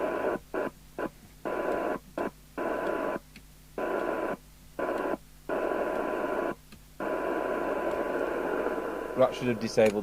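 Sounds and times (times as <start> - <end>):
radio receiver hiss with tone: 0.0 - 10.0.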